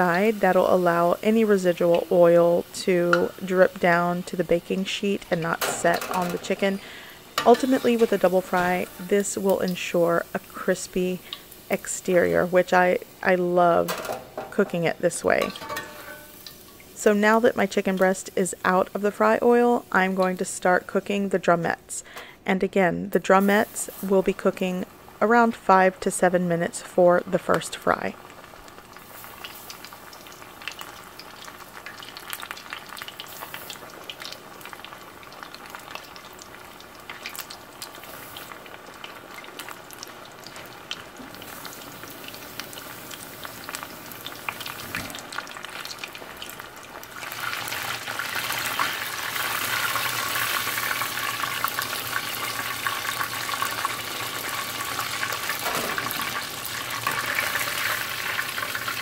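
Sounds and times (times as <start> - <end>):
chicken deep-frying in oil: 0.0 - 21.2, 23.3 - 59.0.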